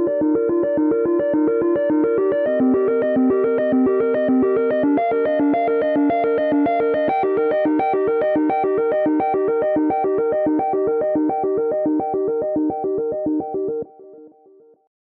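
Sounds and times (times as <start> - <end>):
electronic ringtone melody: 0.0 - 14.2.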